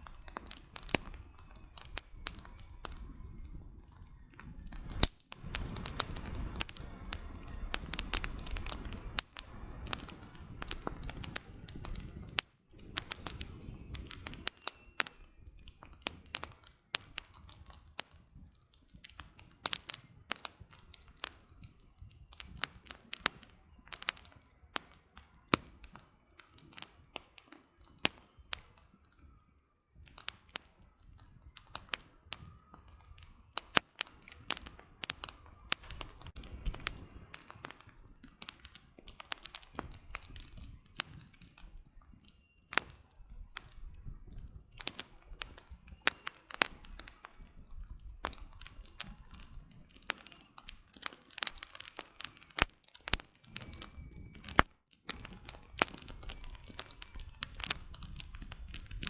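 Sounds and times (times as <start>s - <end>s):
firewood crackling and popping: 0.0s - 59.0s
low rumble of flames: 0.0s - 59.0s.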